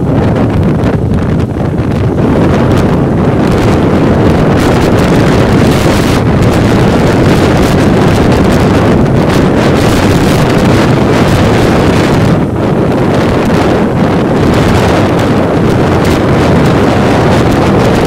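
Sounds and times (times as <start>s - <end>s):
motorbike noise: 0.0s - 18.0s
wind rushing over microphone: 0.0s - 18.0s.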